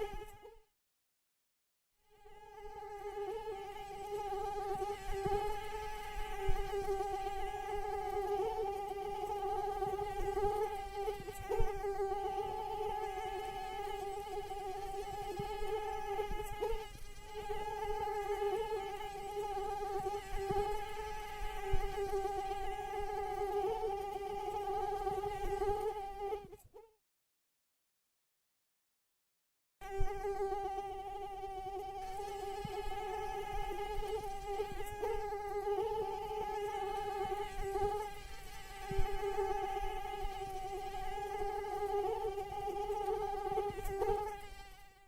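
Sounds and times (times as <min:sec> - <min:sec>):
mosquito wingbeat whine: 0:00.0 - 0:00.6, 0:02.1 - 0:26.9, 0:29.8 - 0:45.0.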